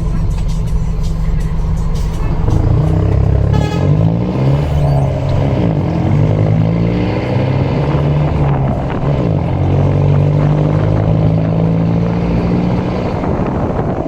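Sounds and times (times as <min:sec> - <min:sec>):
diesel bus engine under load: 0:00.0 - 0:14.0.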